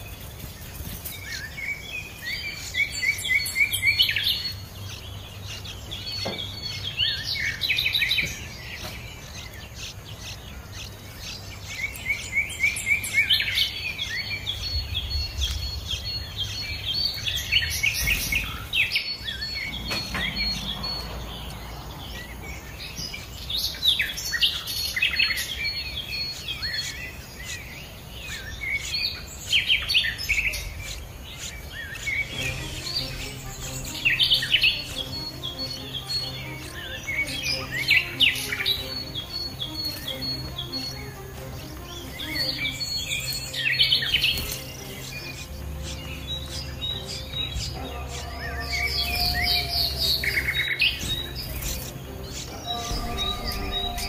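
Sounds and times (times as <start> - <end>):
wild birds chirping: 0.0 - 54.0.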